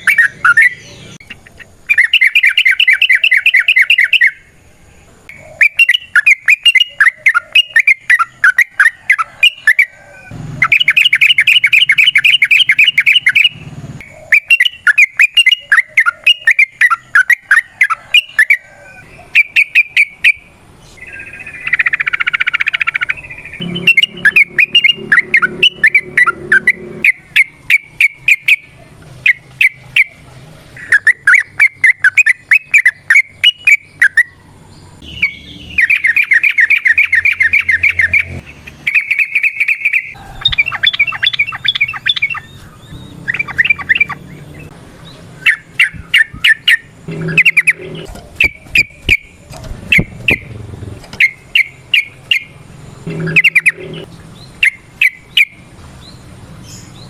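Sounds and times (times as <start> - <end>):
bird chattering calls: 0.0 - 4.5, 5.3 - 55.6.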